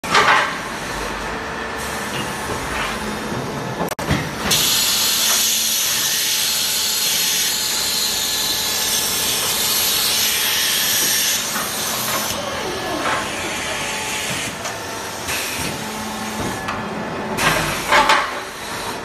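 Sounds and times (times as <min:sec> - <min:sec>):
factory machinery running: 0:00.0 - 0:19.0.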